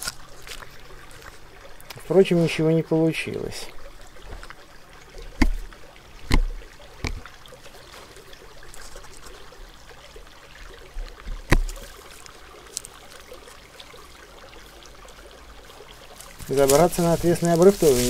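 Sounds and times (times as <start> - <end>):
river water trickling: 0.0 - 18.0.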